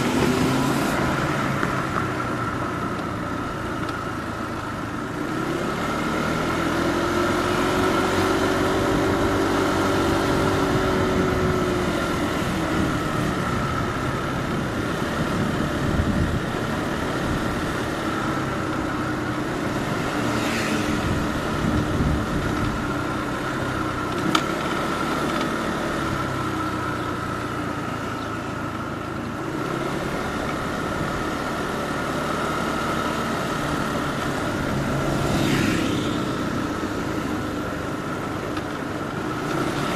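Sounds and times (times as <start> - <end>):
motorbike engine running: 0.0 - 39.9
road noise: 0.0 - 39.9
traffic: 0.0 - 39.9.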